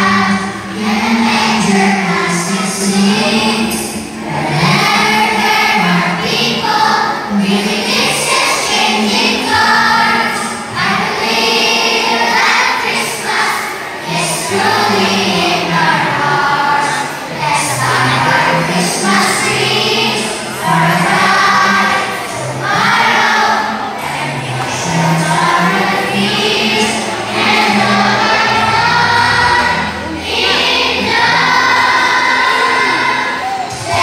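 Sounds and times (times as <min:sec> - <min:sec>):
children's choir singing: 0:00.0 - 0:34.0.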